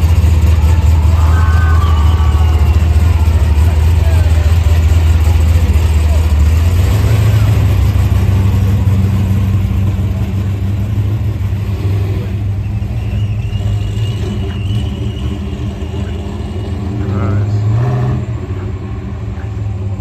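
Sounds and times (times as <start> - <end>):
car engines exhaust rumble: 0.0 - 20.0.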